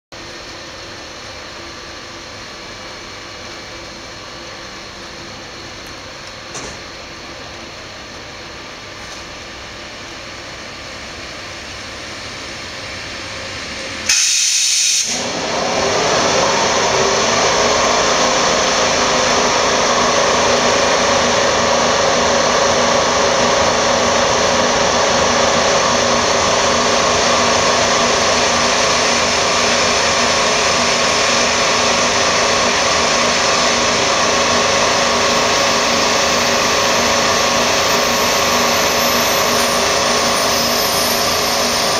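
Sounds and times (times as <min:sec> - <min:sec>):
passenger train rolling past: 0:00.2 - 0:41.9
hiss and hum of coaches: 0:00.5 - 0:41.9.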